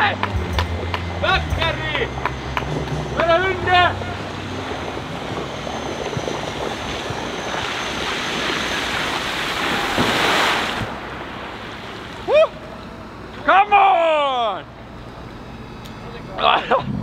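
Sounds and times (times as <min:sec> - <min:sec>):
water rushing: 0:00.0 - 0:15.5.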